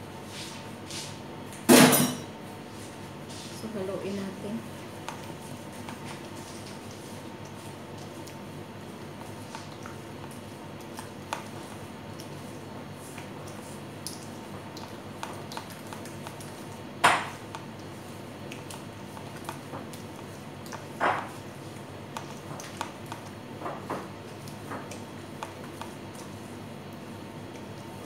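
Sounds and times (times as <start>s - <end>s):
wet squishing of hand mixing: 2.6s - 28.0s.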